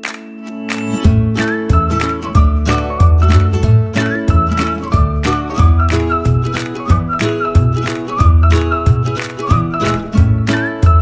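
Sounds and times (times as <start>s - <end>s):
whistle-like melody: 0.0s - 11.0s
bass line: 1.0s - 11.0s.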